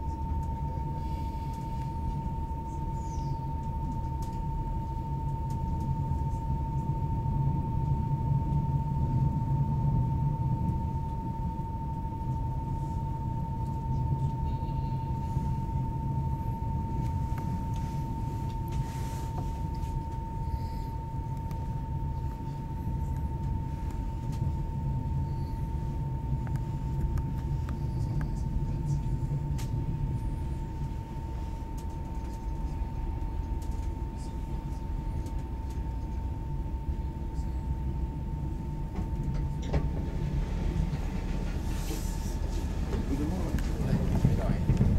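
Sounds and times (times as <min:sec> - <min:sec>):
train low rumble: 0:00.0 - 0:44.9.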